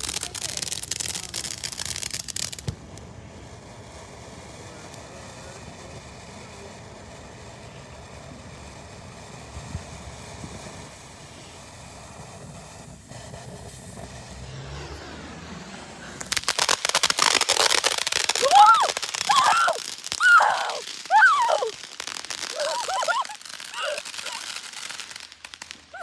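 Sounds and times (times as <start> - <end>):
firework crackling: 0.0 - 26.0.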